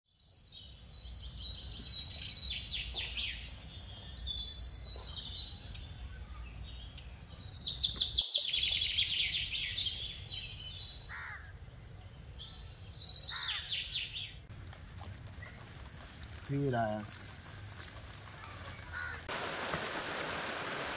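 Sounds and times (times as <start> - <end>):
birds chirping and singing: 0.2 - 19.3.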